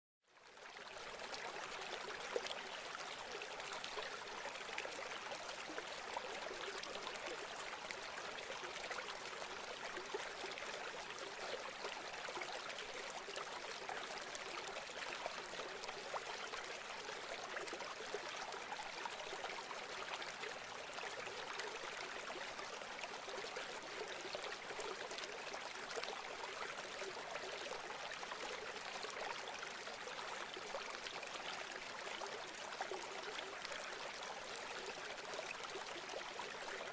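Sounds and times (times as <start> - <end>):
stream flowing over rocks: 0.4 - 36.9.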